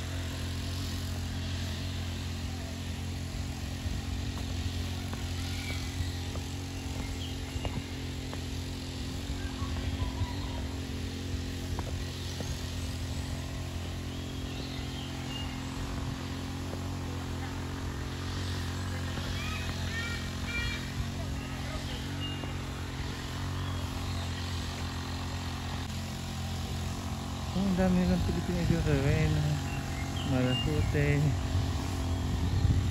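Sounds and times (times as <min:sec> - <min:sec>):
low motor hum: 0:00.0 - 0:32.9.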